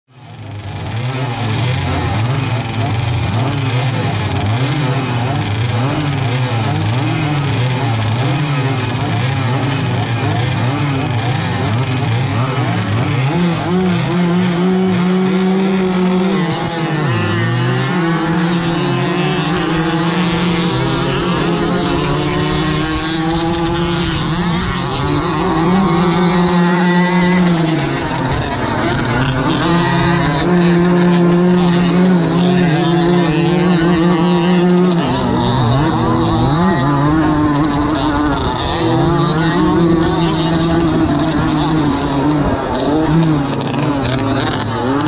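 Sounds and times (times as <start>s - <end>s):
moped engines revving: 0.1s - 45.0s.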